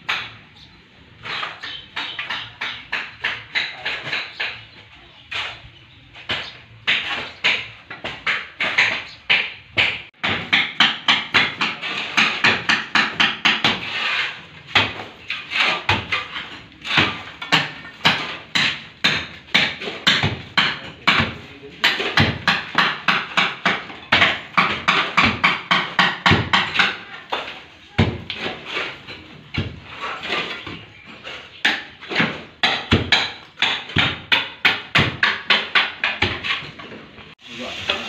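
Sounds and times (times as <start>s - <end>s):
hammer chipping brick wall: 0.0s - 0.6s, 1.2s - 37.3s.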